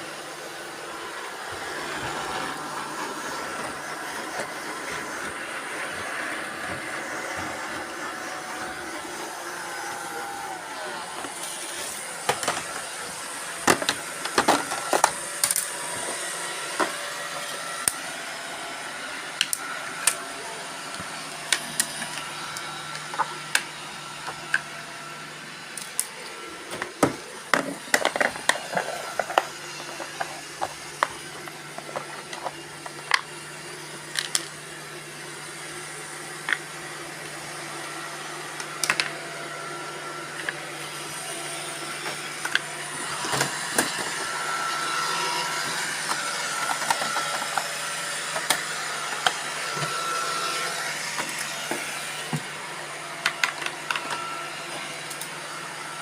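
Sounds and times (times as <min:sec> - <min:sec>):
robot vacuum cleaners whirring: 0:00.0 - 0:56.0.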